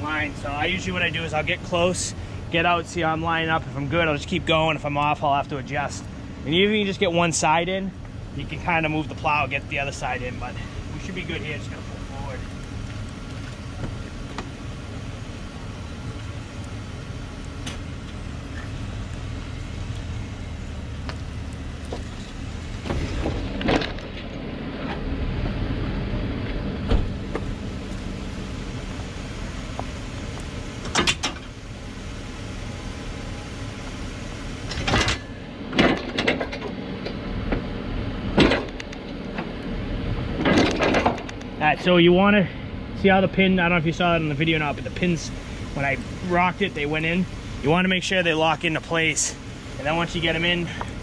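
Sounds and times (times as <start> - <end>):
truck engine running low: 0.0 - 51.0.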